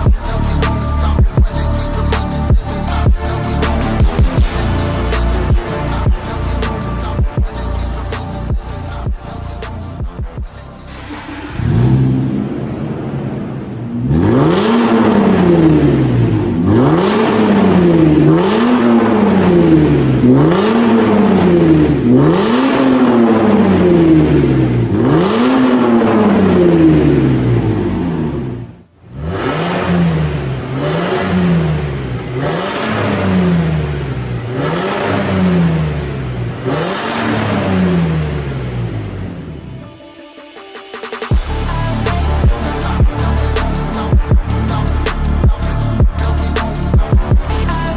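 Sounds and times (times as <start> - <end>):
car engine revving: 0.0 - 47.9.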